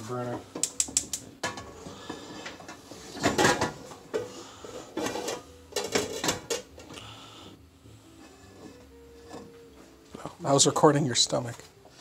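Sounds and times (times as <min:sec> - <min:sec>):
pots clanking and scraping on grates: 0:01.3 - 0:07.2, 0:08.0 - 0:12.0.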